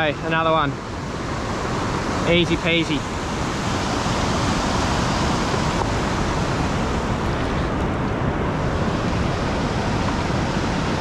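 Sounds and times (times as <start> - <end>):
surf washing over sand: 0.0 - 11.0
wind on microphone: 0.0 - 11.0.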